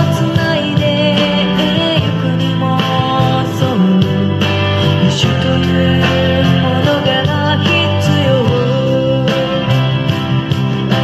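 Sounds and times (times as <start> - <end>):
woman singing: 0.0 - 10.1
acoustic guitar: 0.0 - 11.0
keyboards: 0.0 - 11.0.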